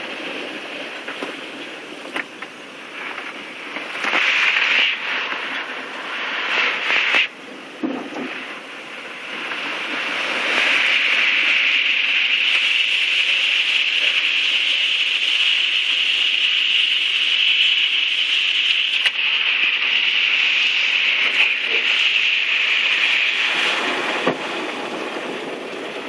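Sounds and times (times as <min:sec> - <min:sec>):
storm winds roaring: 0:00.0 - 0:15.3, 0:19.9 - 0:26.0.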